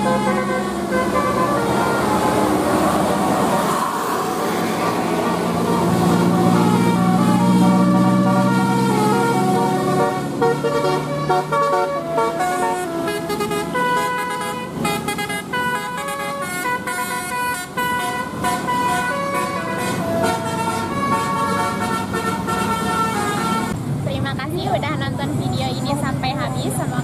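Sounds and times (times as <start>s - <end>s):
musical bus horn tune: 0.0s - 23.8s.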